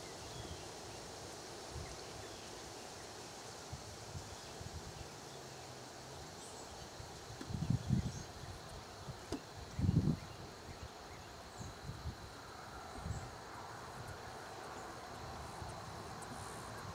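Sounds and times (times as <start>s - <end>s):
outdoor background hiss: 0.0s - 16.9s.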